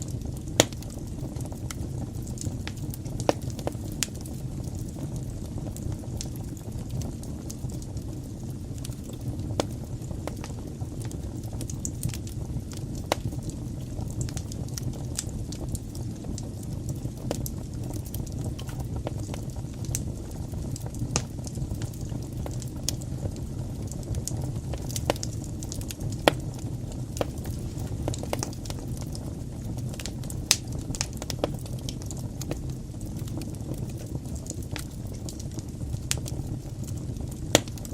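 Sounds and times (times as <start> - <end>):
fire crackles and pops: 0.0 - 37.9
low rumble of flames: 0.0 - 37.9.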